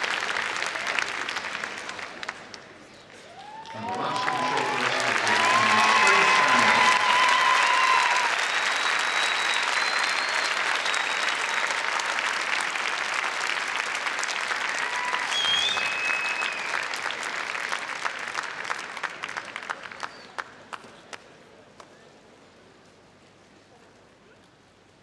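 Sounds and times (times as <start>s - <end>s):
audience applauding: 0.0s - 21.2s.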